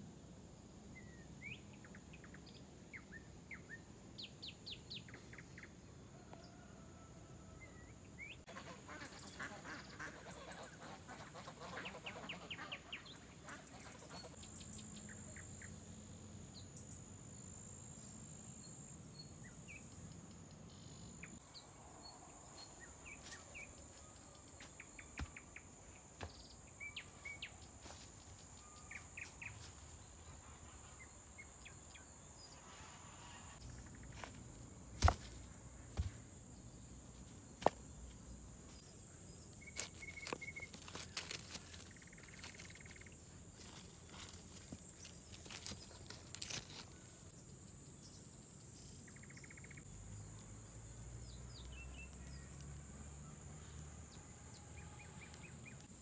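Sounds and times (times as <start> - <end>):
faint birdsong chirps: 0.0 - 56.0.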